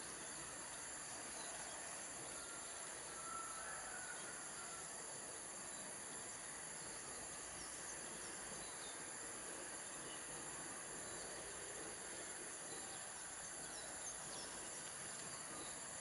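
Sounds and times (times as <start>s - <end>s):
insects trilling: 0.0s - 16.0s
outdoor hiss: 0.0s - 16.0s.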